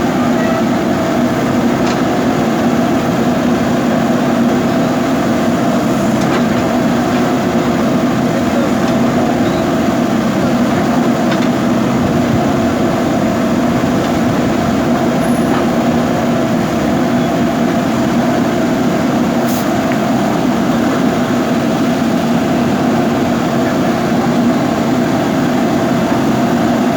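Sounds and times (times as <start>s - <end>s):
diesel engine running steadily: 0.0s - 26.9s.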